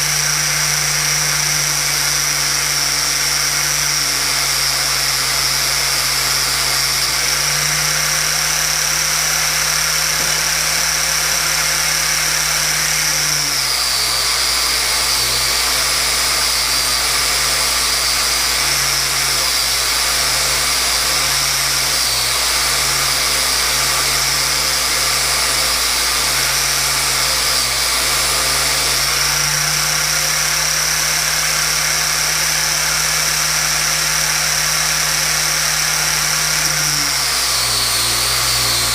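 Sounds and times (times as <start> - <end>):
electric power tool motor running: 0.0 - 38.9.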